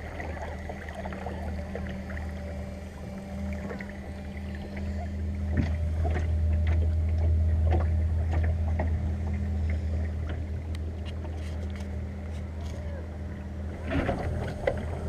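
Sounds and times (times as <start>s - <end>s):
steady low motor rumble: 0.0s - 15.0s
water splashing against hull: 0.0s - 15.0s.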